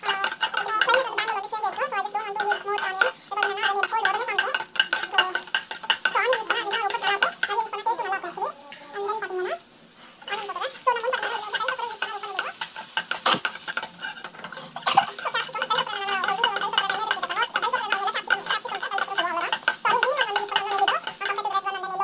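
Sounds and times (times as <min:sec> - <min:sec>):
metal spatula scraping a pan: 0:00.0 - 0:22.0
vegetables sizzling in hot oil: 0:00.0 - 0:22.0.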